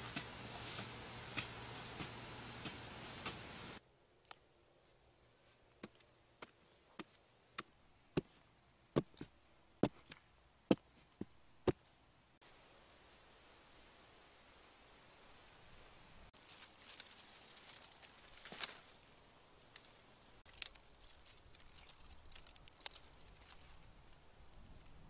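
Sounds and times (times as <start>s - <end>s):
soft outdoor background: 0.0s - 25.0s.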